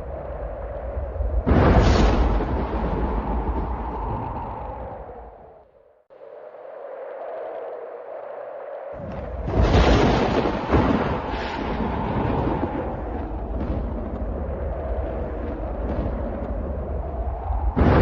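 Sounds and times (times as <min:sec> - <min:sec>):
thunder crack and rumble: 0:00.0 - 0:05.6, 0:09.0 - 0:18.0.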